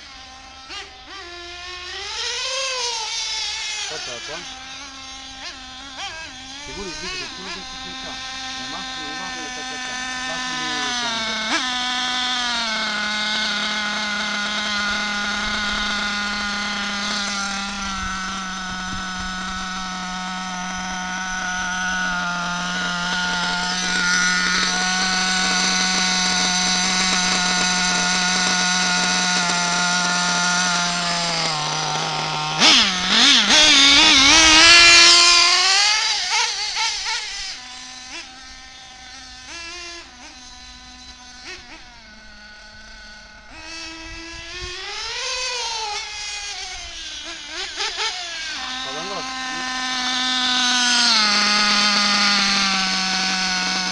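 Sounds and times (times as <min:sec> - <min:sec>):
rc buggy engine revving: 0:00.0 - 0:53.9.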